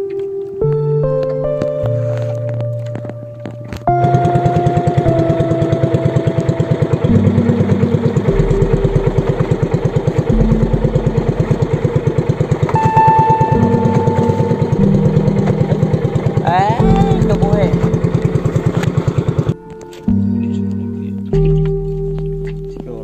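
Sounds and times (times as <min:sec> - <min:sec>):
boat engine puttering: 0:00.0 - 0:23.0.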